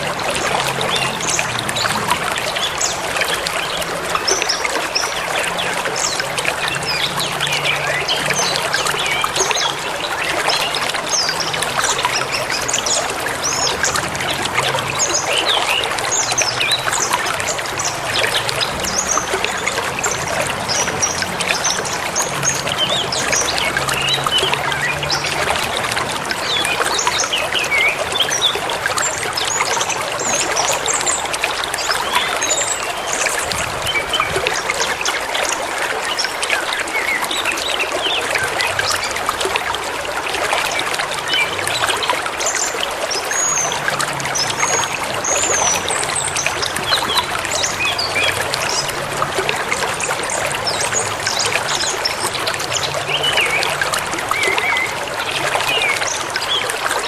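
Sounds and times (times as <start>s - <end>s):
river babbling and rushing: 0.0s - 57.0s.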